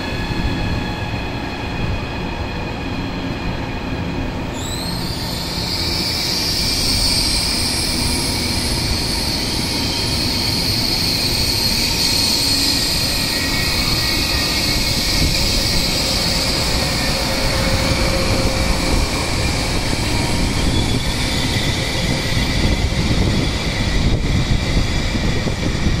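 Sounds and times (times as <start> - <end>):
high braking squeal: 0.0 - 26.0
train wheels rumbling: 0.0 - 26.0.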